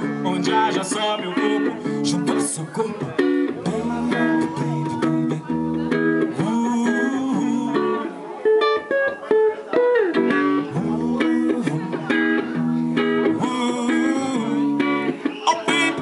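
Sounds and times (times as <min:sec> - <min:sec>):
reggae-pop music: 0:00.0 - 0:16.0.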